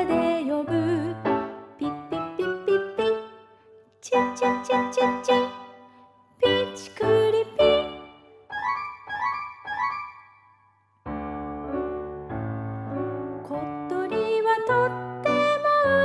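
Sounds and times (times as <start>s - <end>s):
piano background music: 0.0s - 16.0s.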